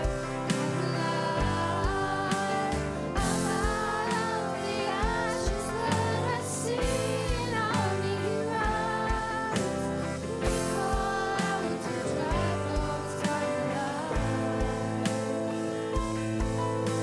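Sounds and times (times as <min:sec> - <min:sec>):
person singing: 0:00.0 - 0:17.0
worship band playing: 0:00.0 - 0:17.0.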